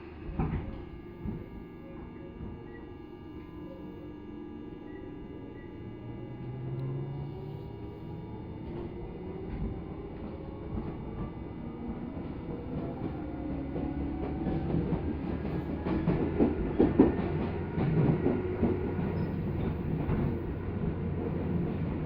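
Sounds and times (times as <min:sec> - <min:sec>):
electric train motor hum: 0:00.0 - 0:22.0.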